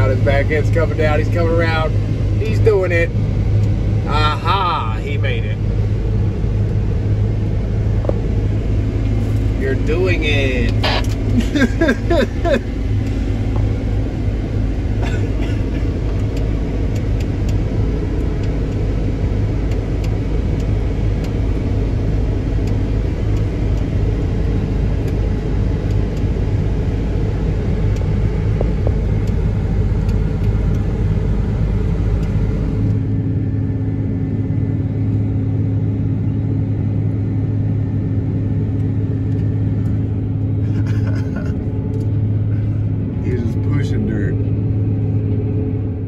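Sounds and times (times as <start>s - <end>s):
combine harvester rumble and hum: 0.0s - 46.0s.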